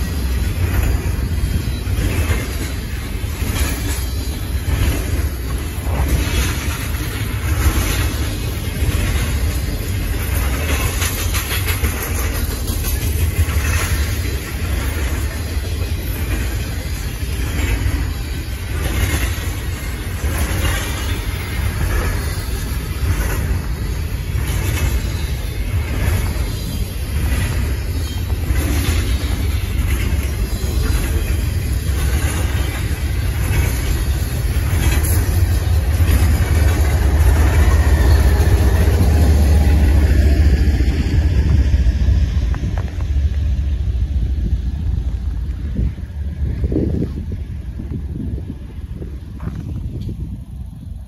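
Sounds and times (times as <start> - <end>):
diesel locomotive passing: 0.0 - 51.0
train wheels rumbling on rails: 0.0 - 51.0.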